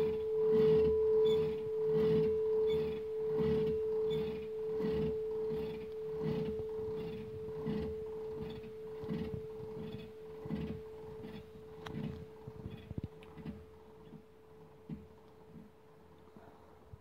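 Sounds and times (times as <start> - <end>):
church bell humming: 0.0 - 14.7.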